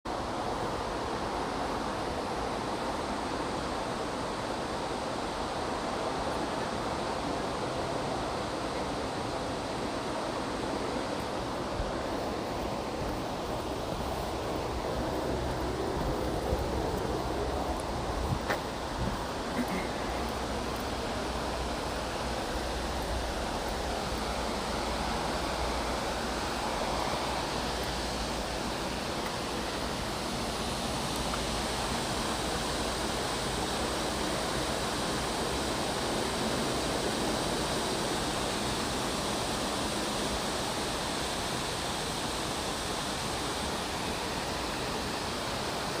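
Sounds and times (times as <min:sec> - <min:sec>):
waterfall rushing: 0:00.1 - 0:46.0.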